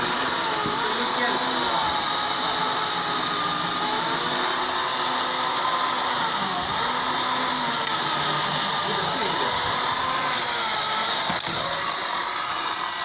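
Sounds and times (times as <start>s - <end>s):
electric chainsaw cutting wood: 0.0s - 13.0s.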